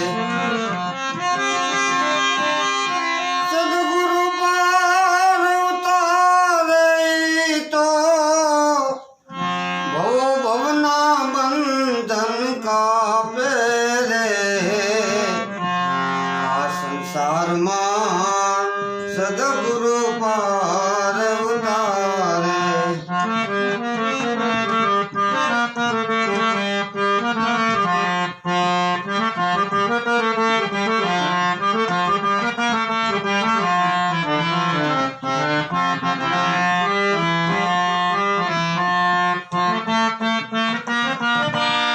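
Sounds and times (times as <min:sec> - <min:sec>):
reedy melody instrument: 0:00.0 - 0:41.9.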